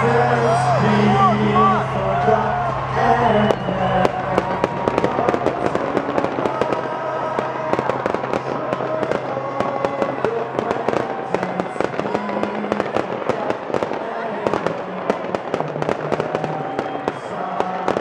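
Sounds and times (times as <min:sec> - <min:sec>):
fireworks bangs and crackles: 0:02.5 - 0:18.0.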